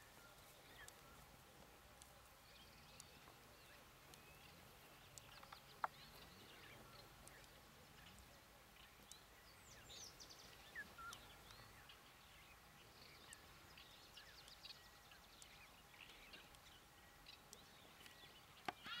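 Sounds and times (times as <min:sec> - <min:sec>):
faint bird chirps and calls: 0:00.0 - 0:19.0.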